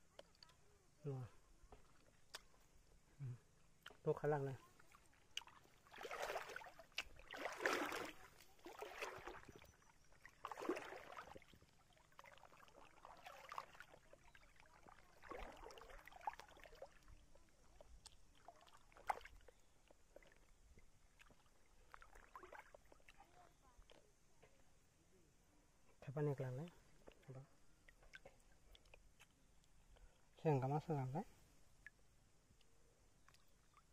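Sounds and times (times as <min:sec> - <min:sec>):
water splashing and sloshing: 0:01.6 - 0:03.0, 0:03.8 - 0:24.8, 0:26.2 - 0:32.0.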